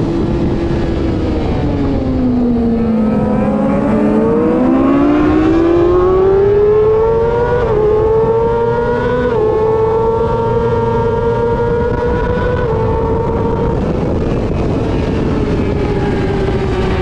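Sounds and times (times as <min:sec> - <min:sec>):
motorcycle engine accelerating: 0:00.0 - 0:17.0
wind rush: 0:00.0 - 0:17.0.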